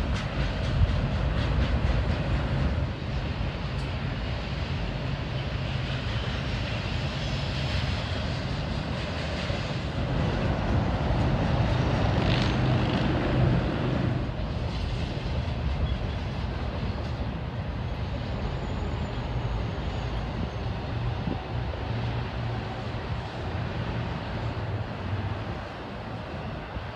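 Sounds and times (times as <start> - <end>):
freight train rumbling and rattling: 0.0 - 26.9.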